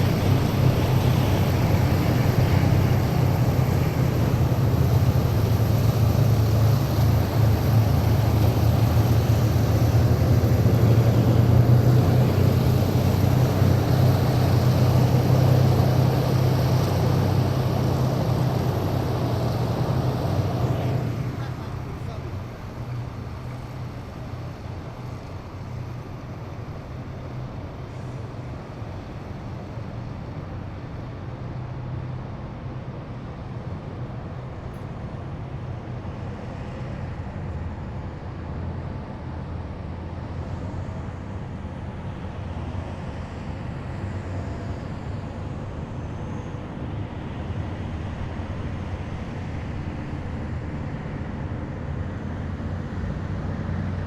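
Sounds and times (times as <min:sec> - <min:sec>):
heavy vehicle engines rumbling: 0:00.0 - 0:54.0
road noise: 0:00.0 - 0:54.0.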